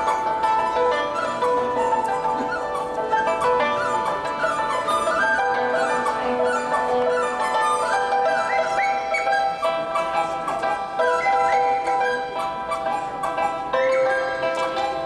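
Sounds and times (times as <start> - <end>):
bamboo flute melody: 0.0 - 15.0
held accompaniment notes: 0.0 - 15.0.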